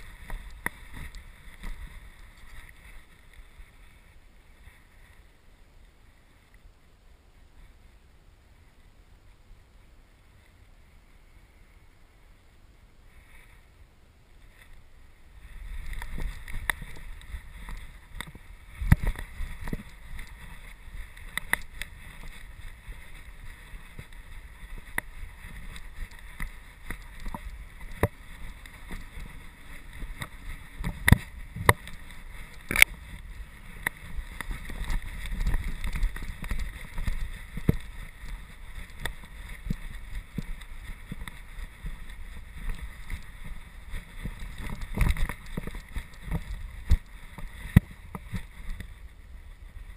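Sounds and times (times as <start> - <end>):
camera rubbing and rumbling: 0.0 - 5.3, 14.4 - 49.9.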